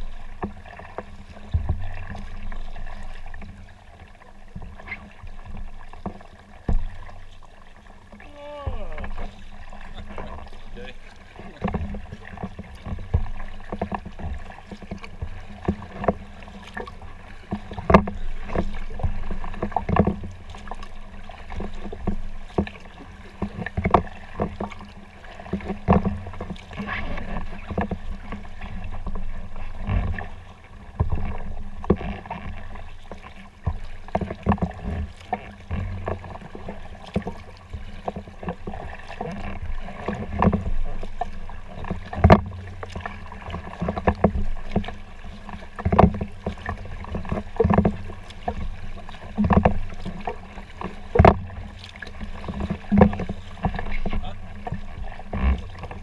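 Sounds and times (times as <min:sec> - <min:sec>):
paddle strokes in water: 0:00.0 - 0:56.0
water washing along hull: 0:00.0 - 0:56.0.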